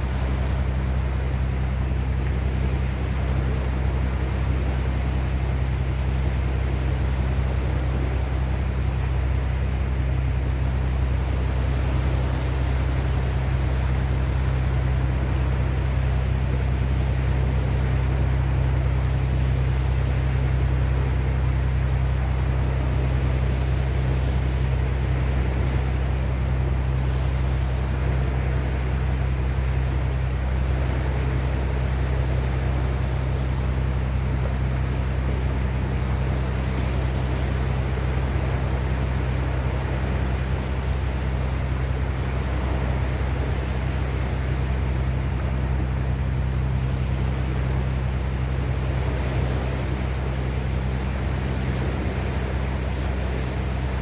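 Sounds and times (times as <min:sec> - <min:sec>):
sea waves: 0:00.0 - 0:54.0
wind: 0:00.0 - 0:54.0.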